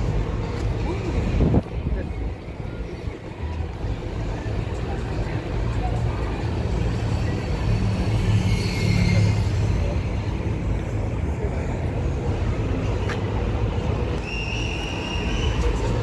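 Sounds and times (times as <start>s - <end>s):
cars passing: 0.0s - 16.0s
murmur of people: 0.0s - 16.0s.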